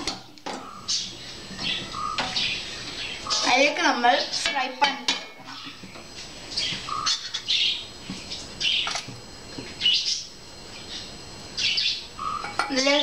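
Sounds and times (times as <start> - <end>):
bird chirping: 0.6 - 4.4, 5.5 - 9.0, 9.8 - 13.0.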